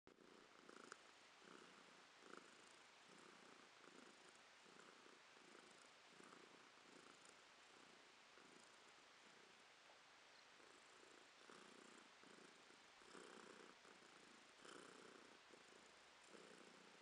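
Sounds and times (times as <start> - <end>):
cat purring softly: 0.1 - 17.0.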